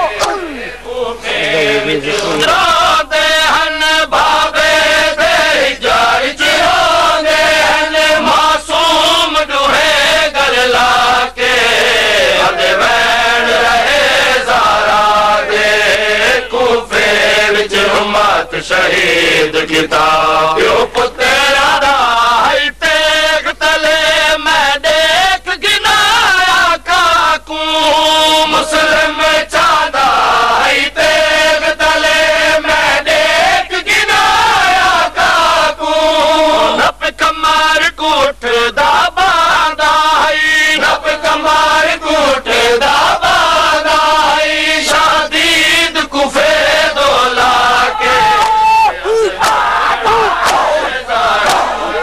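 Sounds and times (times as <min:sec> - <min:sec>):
men chanting a lament: 0:00.0 - 0:52.0.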